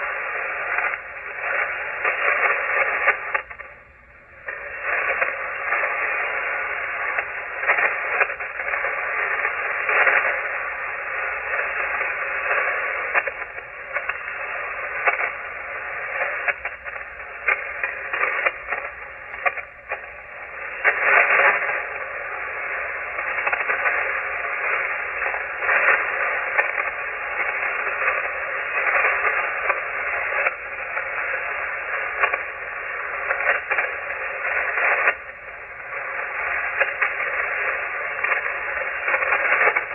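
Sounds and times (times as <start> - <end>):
faint steady tones: 0.0 - 39.9
radio band noise hiss: 0.0 - 39.9
static crackles: 0.0 - 39.9.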